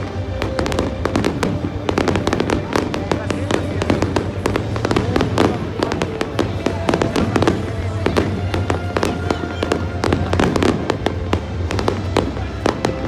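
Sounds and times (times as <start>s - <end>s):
fireworks bangs and crackling: 0.0s - 13.0s
music playing: 0.0s - 13.0s.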